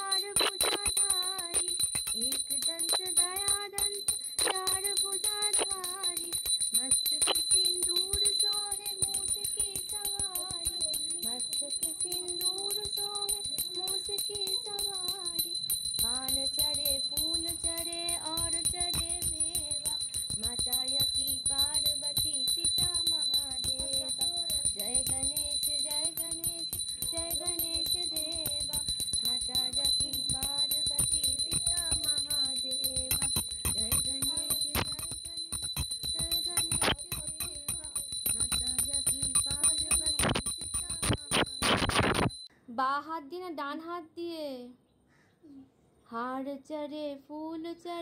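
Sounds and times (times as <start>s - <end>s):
small bell ringing: 0.0s - 42.5s.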